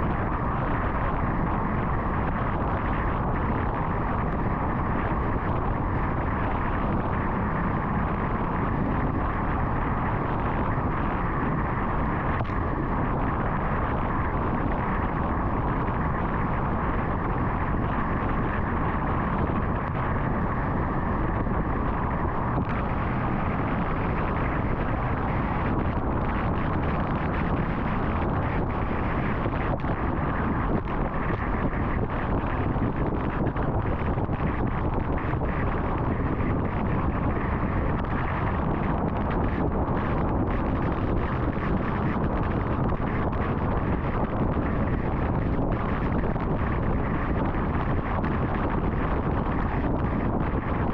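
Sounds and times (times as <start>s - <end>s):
car road and wind noise: 0.0s - 50.9s.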